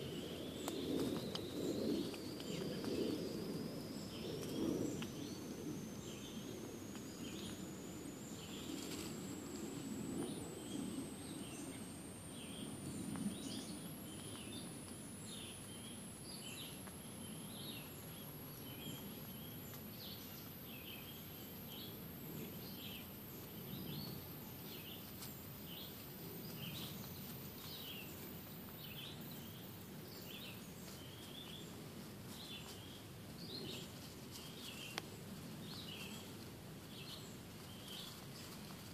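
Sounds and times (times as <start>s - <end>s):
faint thin whine: 0.0s - 38.9s.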